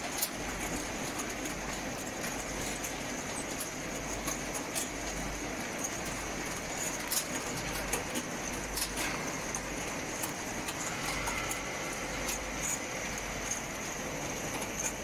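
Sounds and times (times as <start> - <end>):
conveyor machine running: 0.0 - 15.0.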